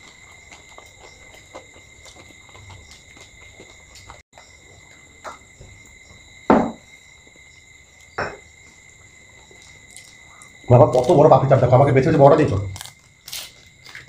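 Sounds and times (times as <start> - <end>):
eating crunches and knocks: 0.0 - 14.0.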